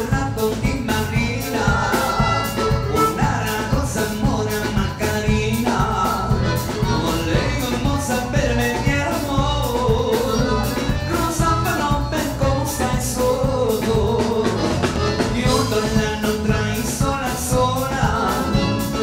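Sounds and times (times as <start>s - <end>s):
accordion: 0.0s - 19.0s
person singing: 0.0s - 19.0s
steady drum beat: 0.0s - 19.0s.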